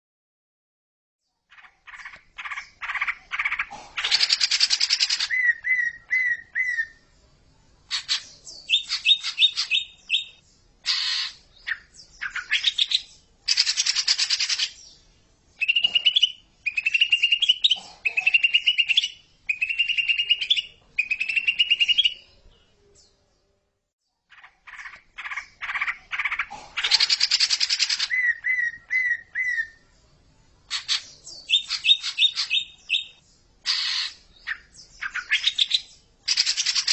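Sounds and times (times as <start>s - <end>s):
bird song recording: 1.2s - 36.9s.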